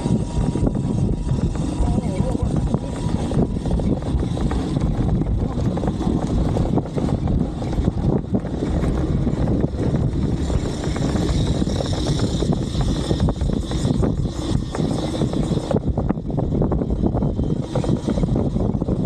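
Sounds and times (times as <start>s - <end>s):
vehicle engine rumbling: 0.0s - 19.0s
wind buffeting microphone: 0.0s - 19.0s.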